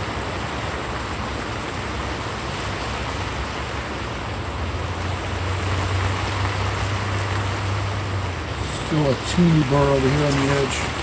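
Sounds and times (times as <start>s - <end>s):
low engine-like drone: 0.0s - 11.0s
outdoor hiss and rumble: 0.0s - 11.0s.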